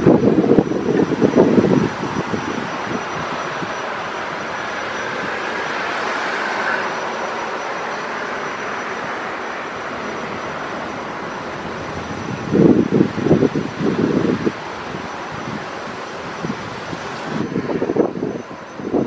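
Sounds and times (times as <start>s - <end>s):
high whine: 0.0s - 19.0s
jet aircraft noise: 0.0s - 19.0s.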